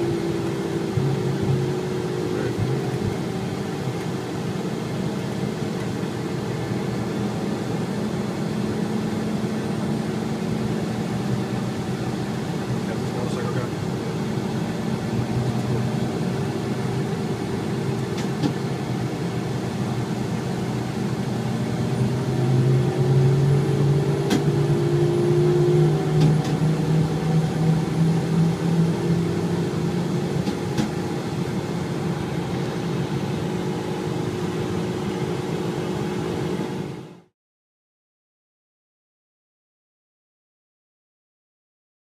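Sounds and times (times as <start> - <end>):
vehicle engine and road noise: 0.0 - 37.3.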